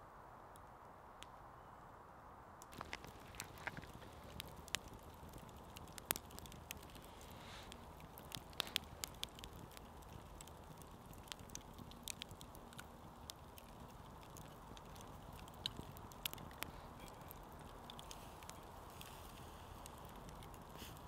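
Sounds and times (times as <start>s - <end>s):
campfire crackling: 0.4s - 1.9s, 2.5s - 21.0s
sharp pops of burning wood: 2.6s - 21.0s.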